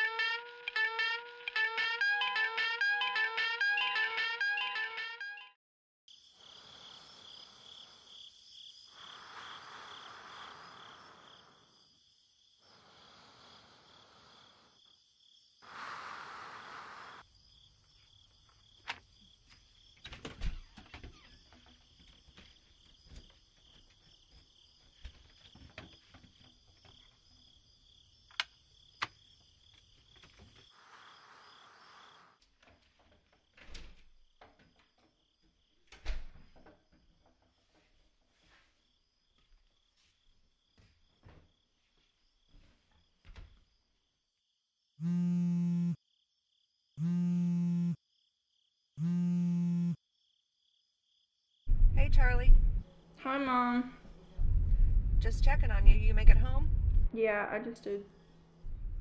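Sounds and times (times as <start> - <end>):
crickets chirping: 6.1 - 56.5, 58.0 - 58.7.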